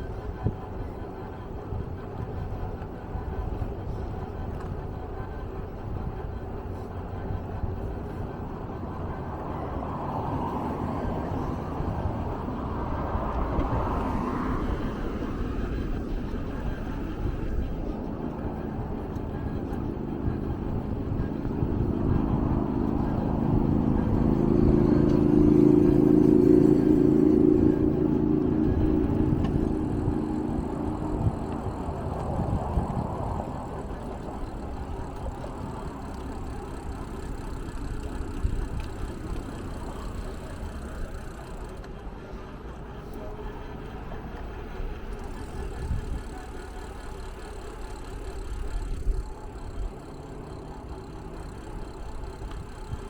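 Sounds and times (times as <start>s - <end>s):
motor vehicle running: 0.0s - 53.0s.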